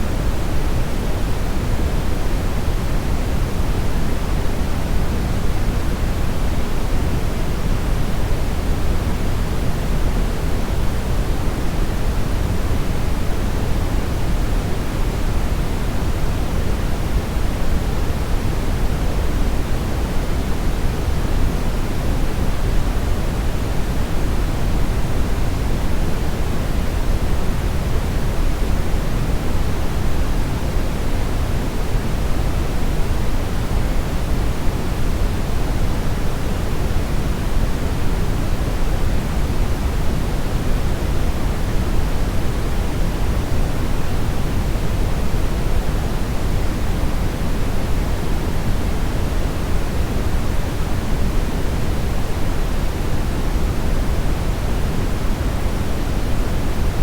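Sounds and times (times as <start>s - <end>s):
brown noise hiss-rumble: 0.0s - 57.0s.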